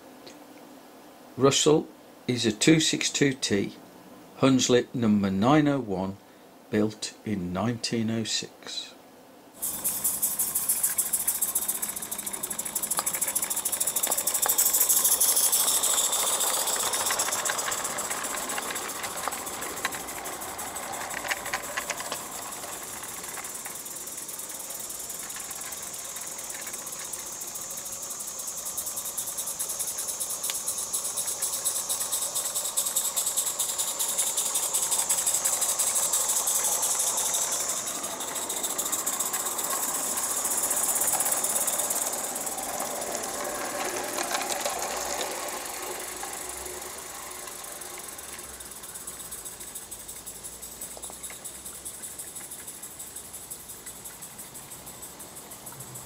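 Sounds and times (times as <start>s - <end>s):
steam engine exhaust beats: 9.6s - 56.0s
steam hiss: 9.6s - 56.0s.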